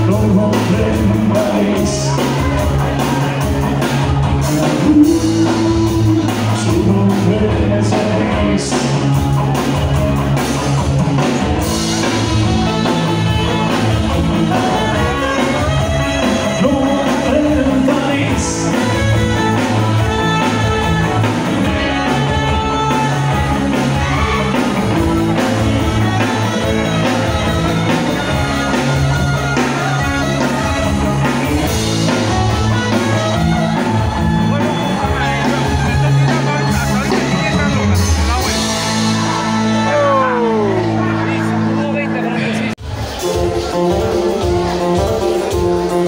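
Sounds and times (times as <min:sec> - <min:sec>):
person singing: 0:00.0 - 0:09.4, 0:11.2 - 0:37.5, 0:38.4 - 0:41.3
live band playing amplified music: 0:00.0 - 0:46.0.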